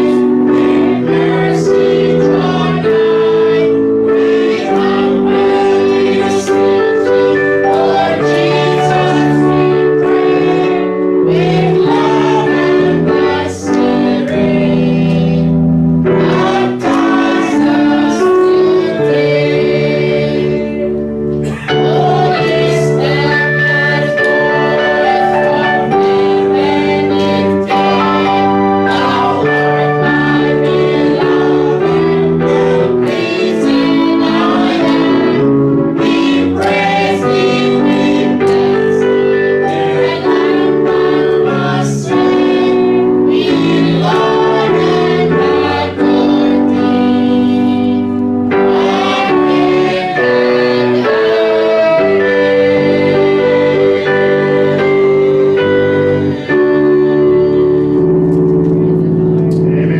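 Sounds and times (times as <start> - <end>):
group singing a hymn: 0.0 - 59.9
instrumental accompaniment: 0.0 - 59.9.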